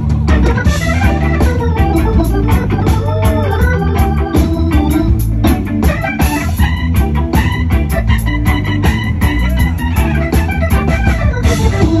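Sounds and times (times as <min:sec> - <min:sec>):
bass: 0:00.0 - 0:12.0
electric guitar: 0:00.0 - 0:12.0
fast drum beat: 0:00.0 - 0:12.0
organ chords: 0:00.0 - 0:12.0.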